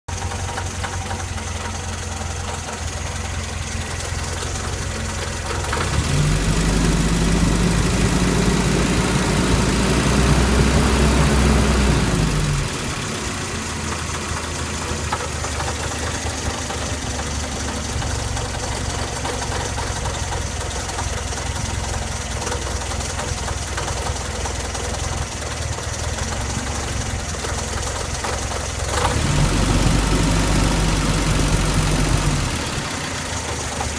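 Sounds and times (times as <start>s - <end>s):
knocking car engine revving: 0.1s - 33.9s.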